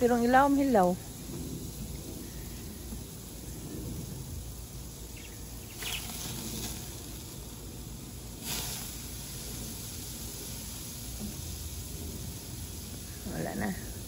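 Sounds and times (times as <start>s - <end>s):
meat sizzling on a grill: 0.0s - 14.0s
sauce hissing on fire: 0.0s - 14.0s.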